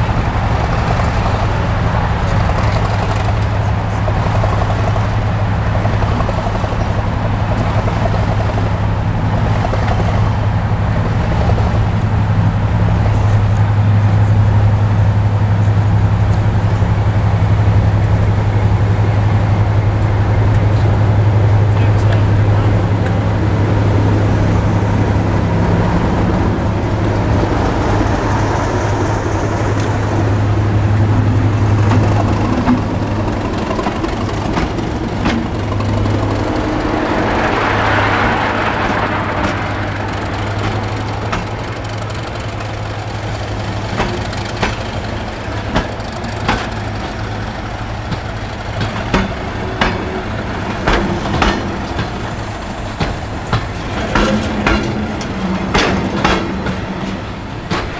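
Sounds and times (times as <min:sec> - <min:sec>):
broad rush of noise: 0:00.0 - 0:57.9
diesel locomotive engine drone: 0:00.0 - 0:57.9
train wheels clicking on rail joints: 0:00.0 - 0:57.9.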